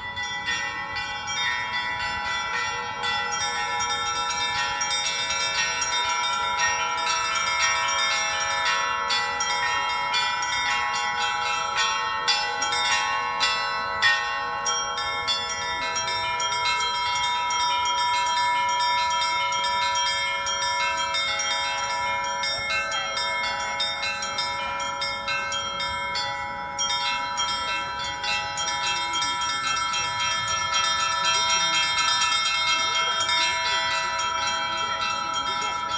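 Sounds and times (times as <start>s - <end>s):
bells ringing: 0.0s - 35.9s.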